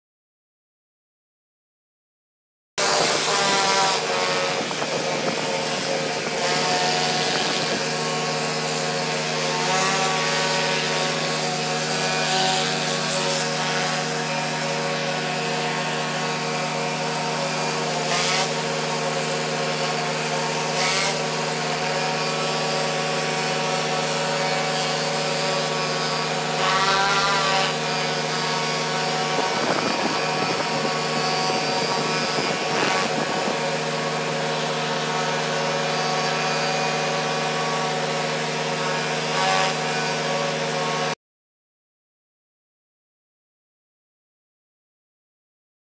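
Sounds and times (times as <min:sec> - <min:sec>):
pressure washer running: 0:02.8 - 0:41.2.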